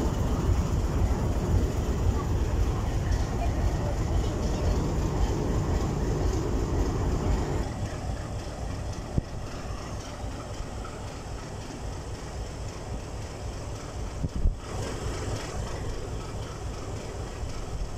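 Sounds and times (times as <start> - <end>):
diesel locomotive engine rumble: 0.0 - 17.9.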